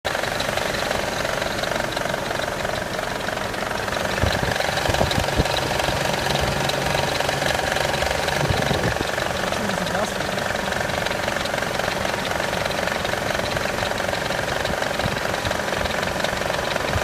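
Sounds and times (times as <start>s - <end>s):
car engine idling with clatter: 0.1s - 17.0s.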